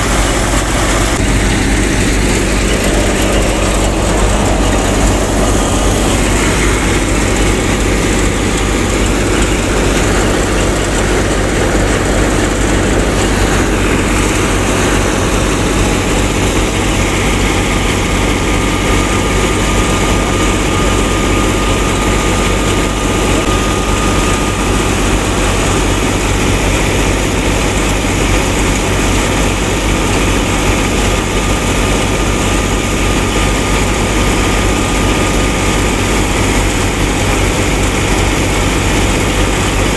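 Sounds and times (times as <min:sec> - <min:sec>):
model thresher whirring: 0:00.0 - 0:39.9.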